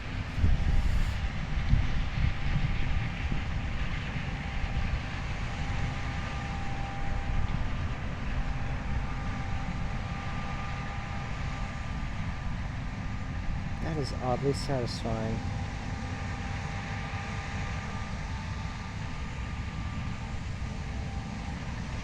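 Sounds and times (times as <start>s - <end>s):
combine harvester rumble: 0.0s - 22.0s
faint steady whine: 0.0s - 22.0s.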